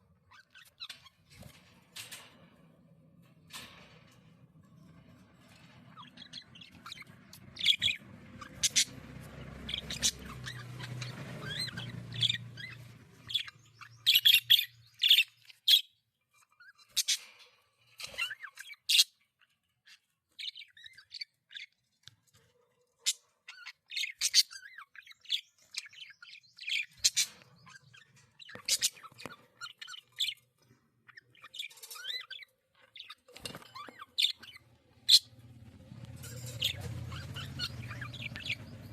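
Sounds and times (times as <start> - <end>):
budgerigars chirping: 5.5 - 21.8, 23.0 - 38.9.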